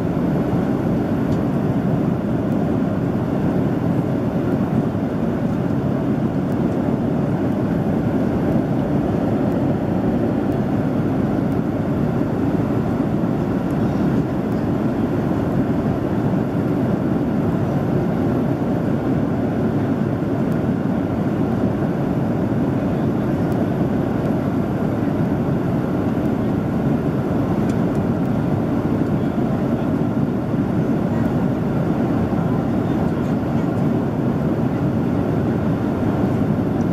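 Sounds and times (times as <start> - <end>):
airplane cabin engine roar: 0.0 - 36.9.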